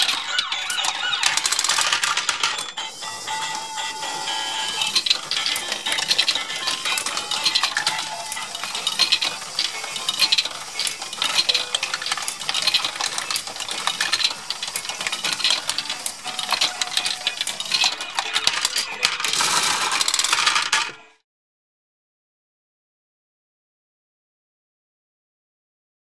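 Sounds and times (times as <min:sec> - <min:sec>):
plastic balls clattering on tracks: 0:00.0 - 0:21.1.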